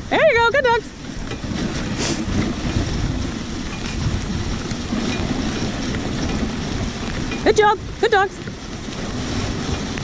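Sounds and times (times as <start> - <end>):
sled runners rushing on snow: 0.0 - 10.0
wind on microphone: 0.0 - 10.0.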